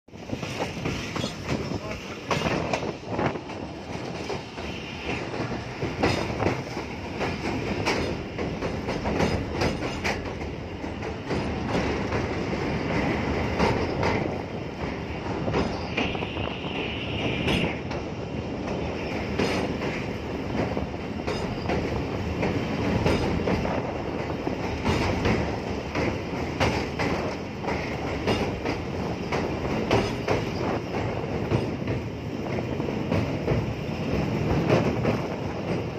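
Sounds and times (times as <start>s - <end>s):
train wheels rumbling over bridge: 0.1s - 35.9s.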